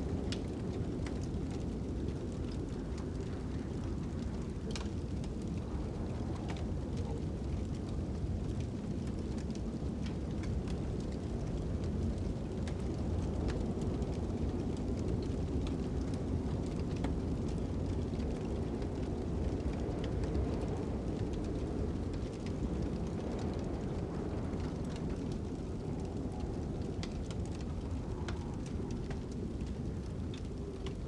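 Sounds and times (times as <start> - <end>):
fire crackling and popping: 0.0 - 31.0
low rumble of wind: 0.0 - 31.0.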